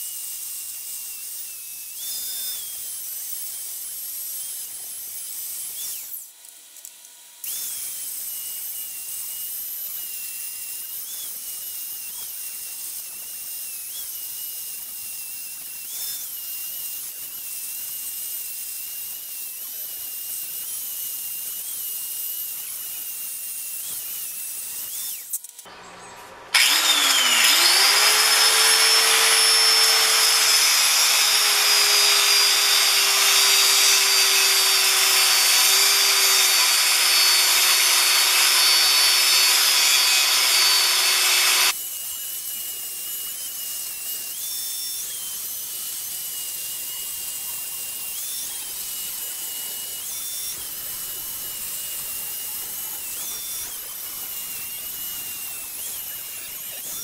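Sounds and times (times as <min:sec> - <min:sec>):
angle grinder cutting steel: 0:00.0 - 0:06.3, 0:07.4 - 0:25.8, 0:26.5 - 0:57.0.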